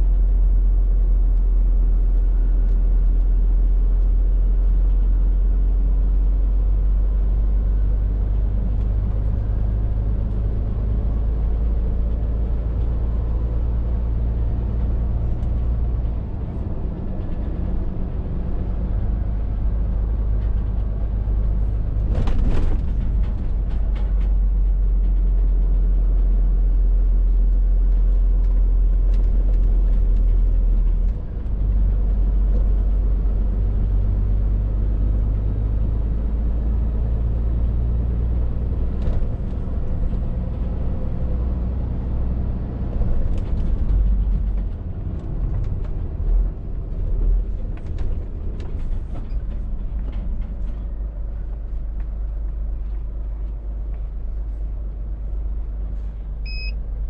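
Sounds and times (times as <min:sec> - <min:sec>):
lorry diesel engine drone: 0:00.0 - 0:57.0
road rumble: 0:00.0 - 0:57.0.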